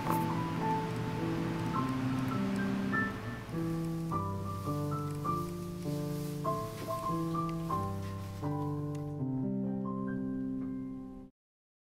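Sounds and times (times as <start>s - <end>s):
solo piano music: 0.0s - 11.3s.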